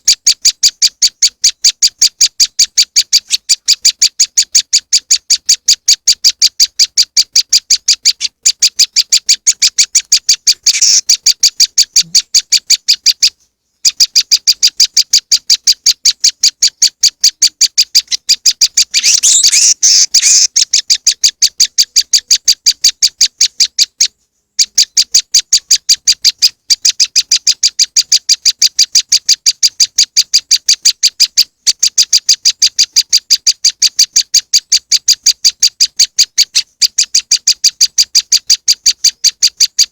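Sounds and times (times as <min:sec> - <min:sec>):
bird calling sharp high chips: 0:00.0 - 0:39.9.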